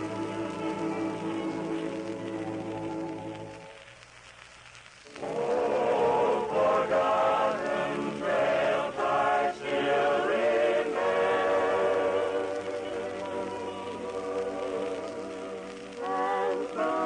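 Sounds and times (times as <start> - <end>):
vocal group singing in harmony: 0.0 - 3.6, 5.1 - 17.0.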